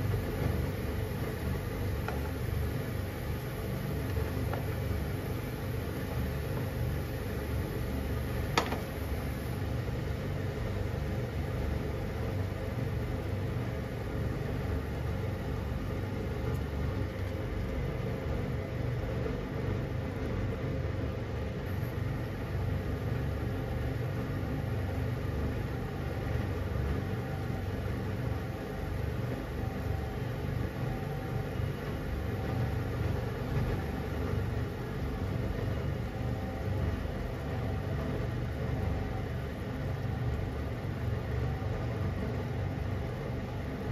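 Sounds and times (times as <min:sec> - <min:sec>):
broth bubbling in a pan: 0:00.0 - 0:43.9.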